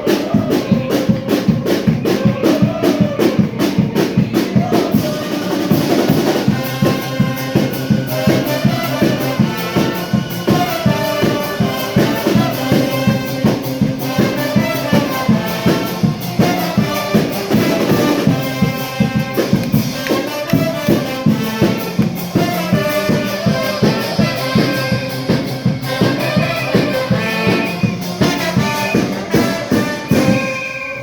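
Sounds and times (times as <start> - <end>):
brass band playing: 0.0 - 31.0
steady drumbeat: 0.0 - 31.0.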